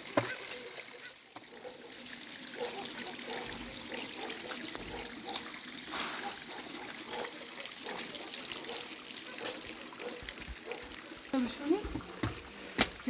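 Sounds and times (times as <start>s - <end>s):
small drips and ticks: 0.0s - 13.0s
water trickling and splashing: 0.0s - 13.0s.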